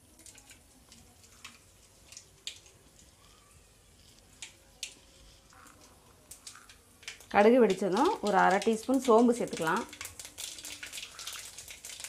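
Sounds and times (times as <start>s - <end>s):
seeds popping in hot oil: 0.0s - 12.0s.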